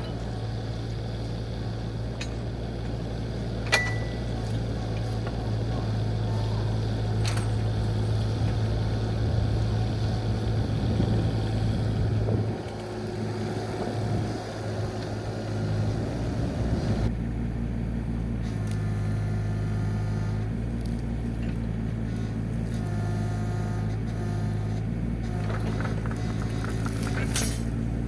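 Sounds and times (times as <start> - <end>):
diesel excavator engine droning: 0.0 - 28.0.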